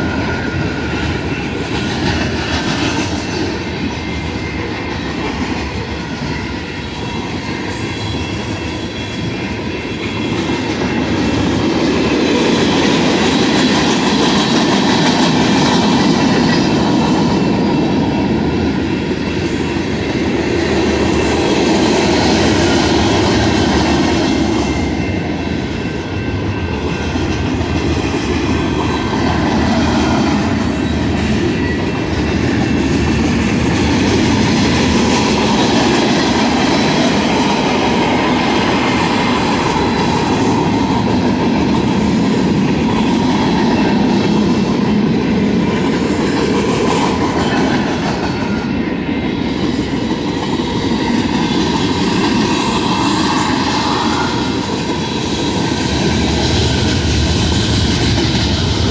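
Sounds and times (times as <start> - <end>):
freight train wheels rumbling on rails: 0.0 - 58.9.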